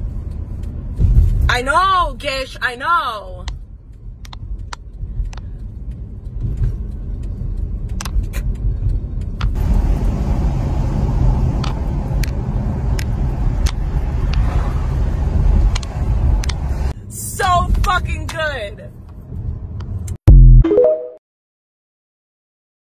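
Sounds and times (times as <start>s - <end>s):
car cabin road and engine rumble: 0.0s - 20.2s.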